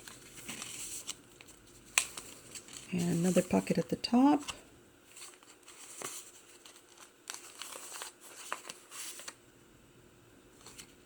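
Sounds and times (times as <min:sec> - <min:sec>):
paper pages rustling: 0:00.0 - 0:09.4, 0:10.6 - 0:11.0.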